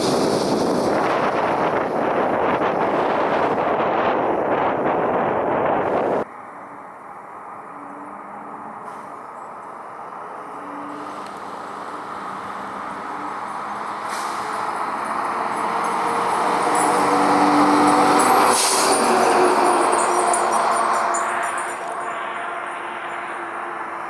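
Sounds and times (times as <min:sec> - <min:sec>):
heavy vehicle engine and road noise: 0:00.0 - 0:24.0.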